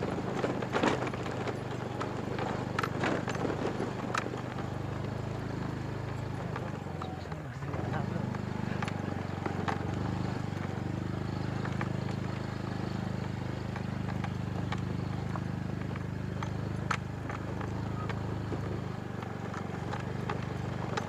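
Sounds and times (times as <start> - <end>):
gravel clicks and knocks: 0.0 - 21.0
motorcycle engine running: 0.0 - 21.0.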